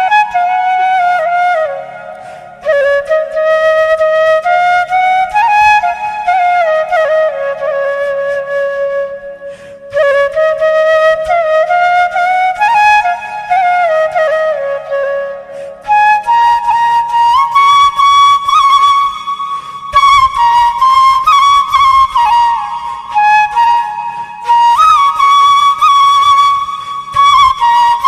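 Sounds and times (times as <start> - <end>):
slow flute melody: 0.0 - 28.0.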